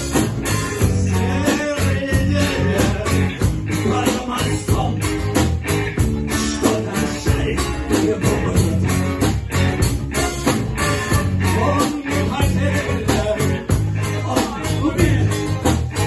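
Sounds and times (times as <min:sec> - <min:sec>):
rock band music: 0:00.0 - 0:16.0.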